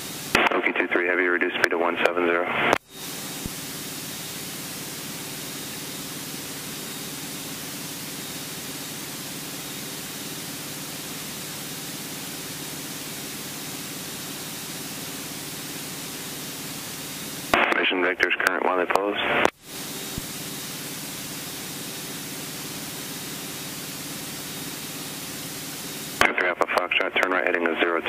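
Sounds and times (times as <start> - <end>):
steady cabin hiss: 0.0 - 28.0.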